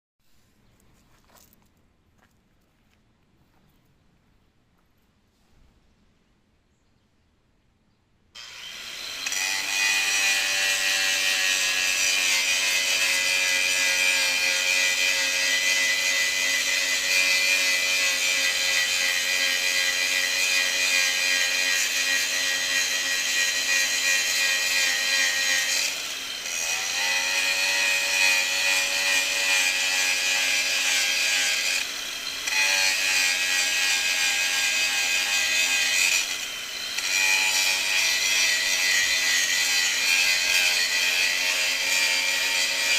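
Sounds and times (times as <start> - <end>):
angle grinder grinding metal: 8.4 - 42.9.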